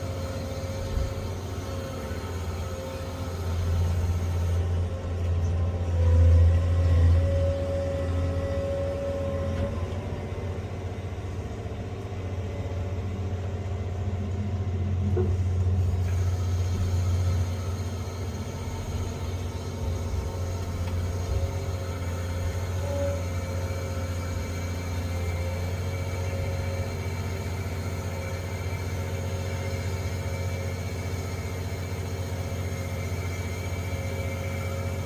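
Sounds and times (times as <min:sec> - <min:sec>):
excavator engine rumbling: 0:00.0 - 0:35.0
faint hydraulic whine: 0:00.0 - 0:35.0.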